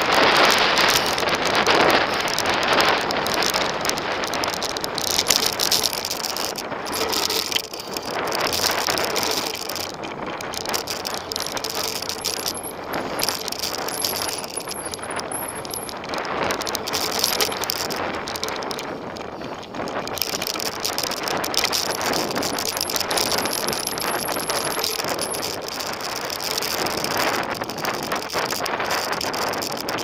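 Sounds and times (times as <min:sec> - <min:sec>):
bike rattling and knocking: 0:00.0 - 0:30.0
bike tyres rolling on dirt: 0:00.0 - 0:30.0.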